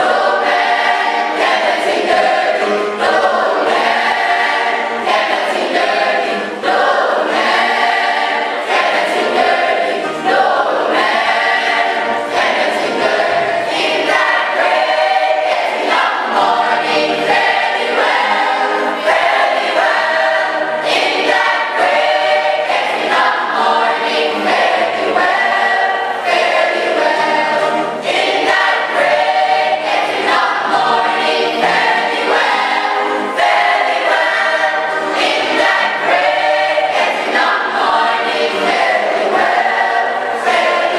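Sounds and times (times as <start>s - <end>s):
choir singing gospel: 0.0s - 40.9s.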